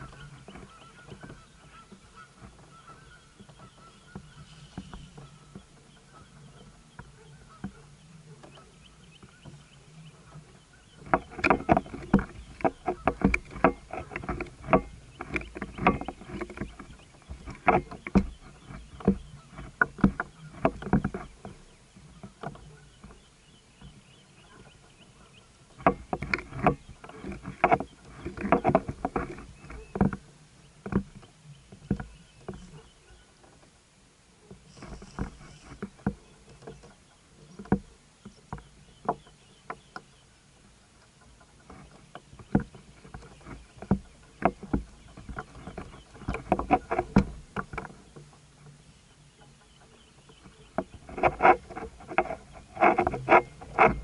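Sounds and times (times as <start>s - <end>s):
knocks and rattles on plastic kayak: 0.0s - 33.8s, 34.4s - 54.0s.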